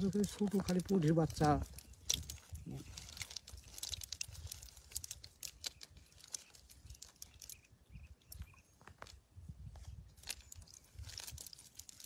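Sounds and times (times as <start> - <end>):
small irregular clicks and crackles: 0.0 - 9.2, 9.8 - 12.0.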